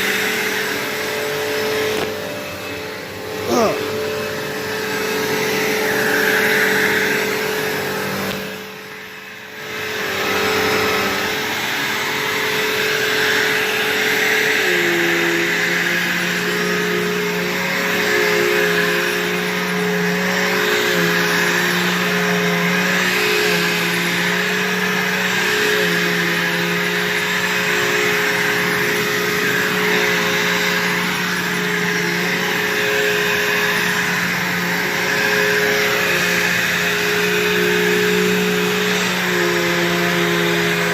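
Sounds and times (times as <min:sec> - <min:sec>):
vacuum cleaner motor hum: 0:00.0 - 0:40.9.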